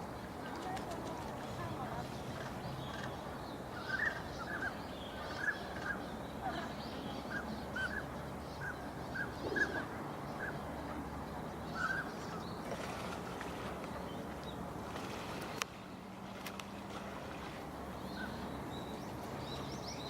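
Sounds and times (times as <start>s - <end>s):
waterbirds calling: 0.0s - 20.0s.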